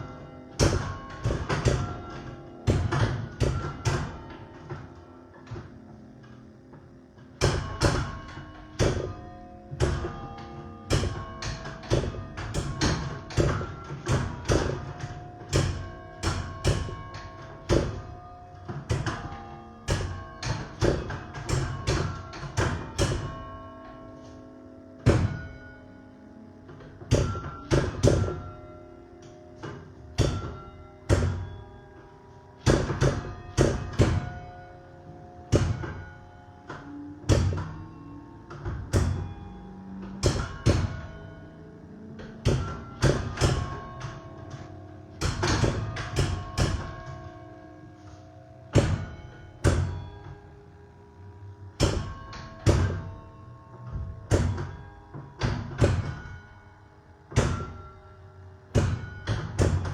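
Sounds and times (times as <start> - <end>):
church bells playing carol melody: 0.0 - 6.3, 7.3 - 59.9.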